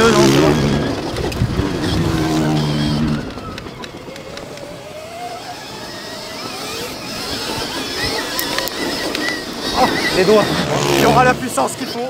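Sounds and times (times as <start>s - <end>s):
electric motor whine: 0.0s - 12.0s
steady rushing noise: 0.0s - 12.0s.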